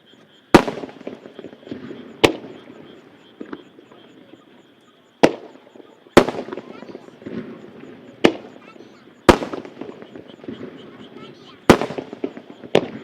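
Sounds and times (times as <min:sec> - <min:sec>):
firework shells bursting: 0:00.5 - 0:04.4, 0:05.2 - 0:13.0
firework pops: 0:00.5 - 0:04.5, 0:05.2 - 0:13.0.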